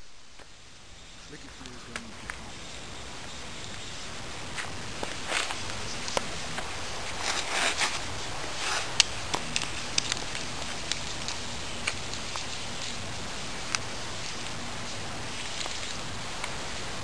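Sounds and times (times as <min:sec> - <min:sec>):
raft scraping through dry leaves: 0:01.0 - 0:17.0
twigs clicking and cracking: 0:01.4 - 0:17.0.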